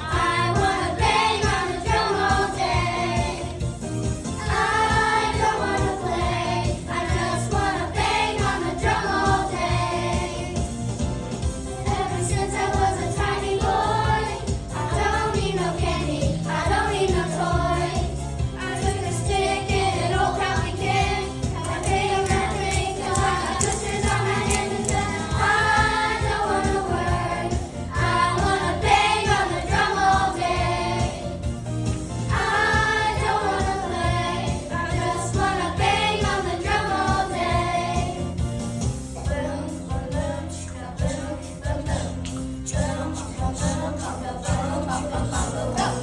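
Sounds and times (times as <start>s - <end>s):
group of voices singing: 0.0s - 3.7s, 4.4s - 10.7s, 11.7s - 31.5s, 32.3s - 38.4s, 39.2s - 46.0s.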